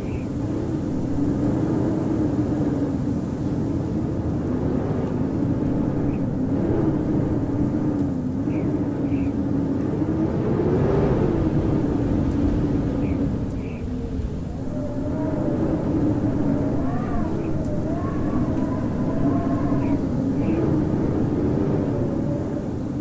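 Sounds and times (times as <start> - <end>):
howling blizzard wind: 0.0 - 23.0.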